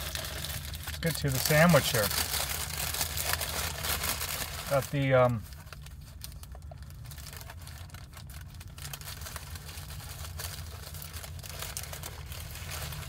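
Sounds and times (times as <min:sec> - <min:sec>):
paper wrapping crinkling: 0:00.0 - 0:13.0.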